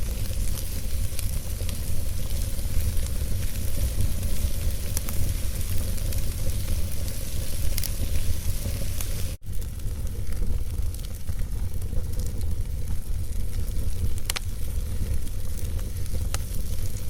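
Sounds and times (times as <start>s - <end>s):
fire low rumble: 0.0s - 17.0s
logs crackling and popping: 0.0s - 17.0s.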